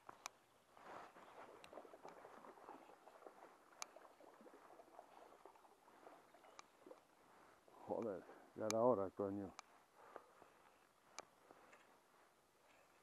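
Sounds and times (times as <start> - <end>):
patter of small ticks: 0.0 - 13.0
river water trickling: 0.0 - 13.0.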